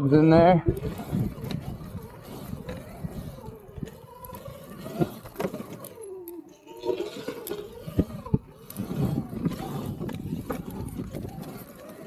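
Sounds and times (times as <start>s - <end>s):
electric motor whine: 0.6s - 12.0s.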